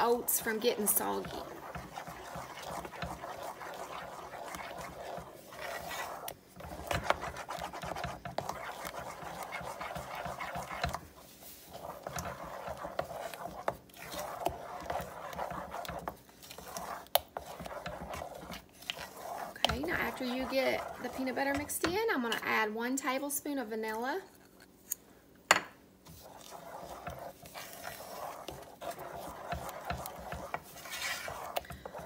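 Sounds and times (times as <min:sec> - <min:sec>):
spoon scraping saucepan: 0:00.0 - 0:22.6, 0:24.2 - 0:32.0.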